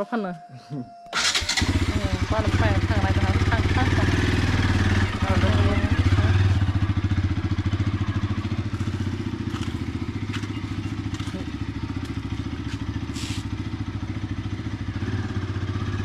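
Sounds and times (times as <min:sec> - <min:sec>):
motorcycle engine running: 0:01.2 - 0:16.0.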